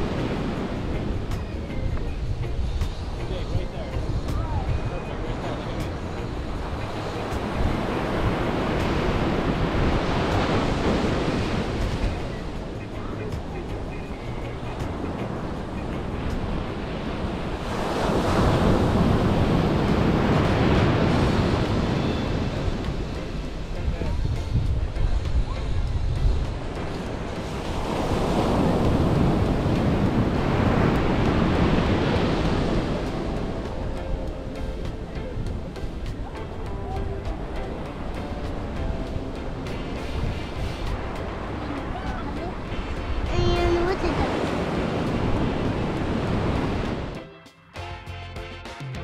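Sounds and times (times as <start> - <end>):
surf washing up beach: 0.0 - 47.2
wind rumbling on microphone: 0.0 - 47.2.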